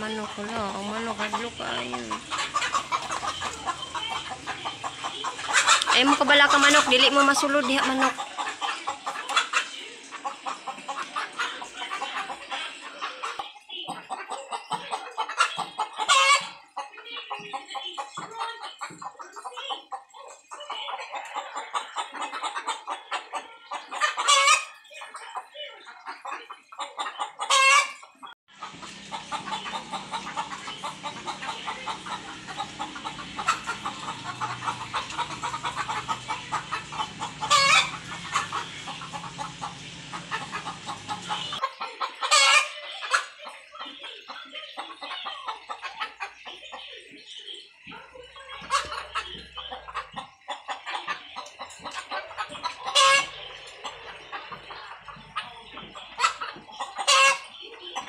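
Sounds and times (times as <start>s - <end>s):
chicken squawks: 0.0s - 47.1s, 47.9s - 58.0s
chickens clucking: 0.0s - 58.0s.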